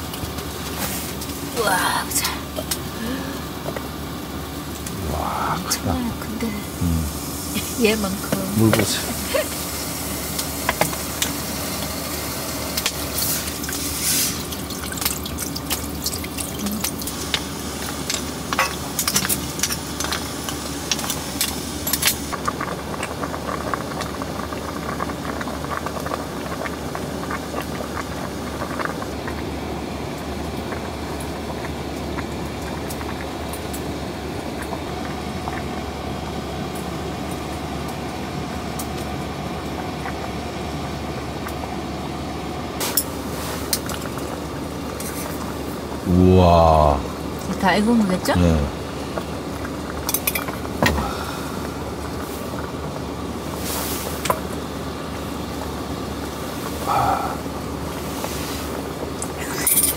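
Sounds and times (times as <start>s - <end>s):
water bubbling in a pot: 0.0s - 59.9s.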